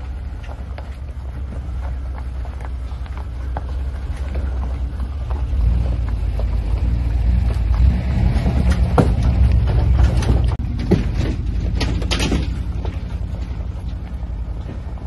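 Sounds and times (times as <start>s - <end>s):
stones crunching under tyres: 0.0s - 15.0s
truck engine droning: 0.0s - 15.0s.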